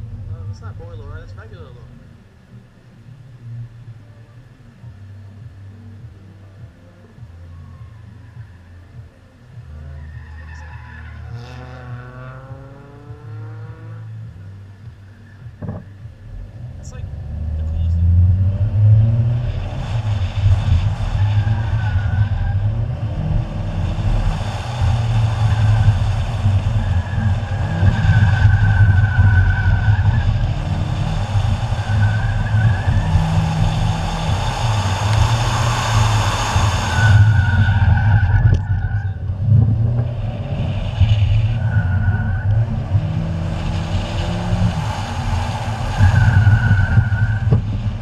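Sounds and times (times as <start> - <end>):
car engine revving: 0.0 - 48.0
tires squealing: 6.8 - 48.0.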